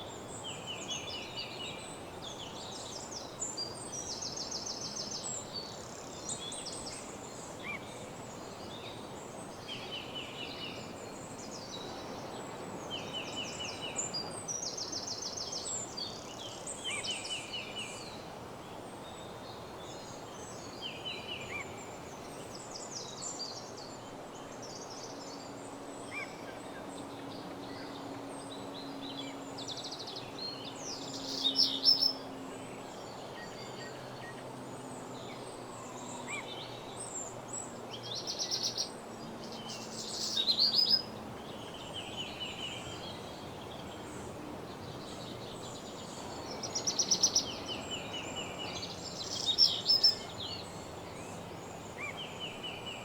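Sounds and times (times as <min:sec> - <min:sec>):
faint steady hiss: 0:00.0 - 0:53.0
songbirds singing: 0:00.0 - 0:53.0.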